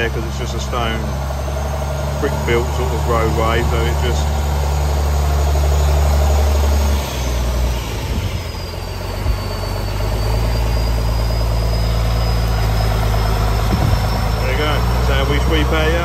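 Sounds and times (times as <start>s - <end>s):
high whine sliding down: 0.0s - 16.0s
tractor diesel engine running: 0.0s - 16.0s.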